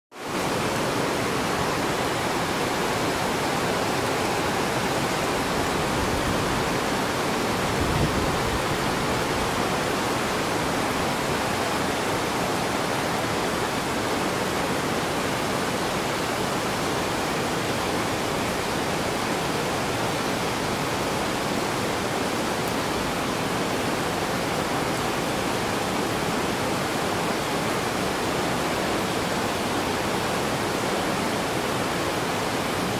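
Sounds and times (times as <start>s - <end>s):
heavy rain pouring: 0.2s - 32.9s.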